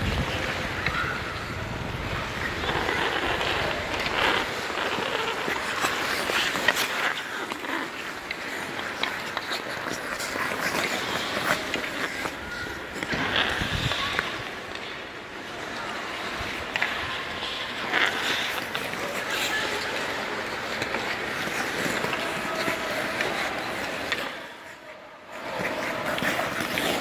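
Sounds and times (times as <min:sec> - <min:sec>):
ice skates scraping ice: 0:00.0 - 0:27.0.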